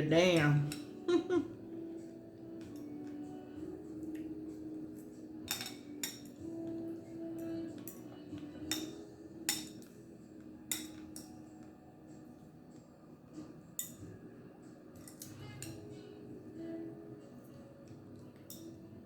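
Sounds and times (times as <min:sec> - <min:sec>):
soft music: 0:00.0 - 0:19.0.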